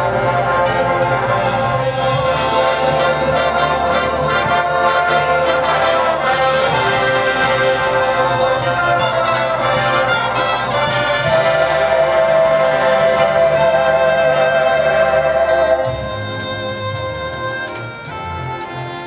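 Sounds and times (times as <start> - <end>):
brass chords: 0.0 - 19.0
percussion strikes: 0.0 - 19.0.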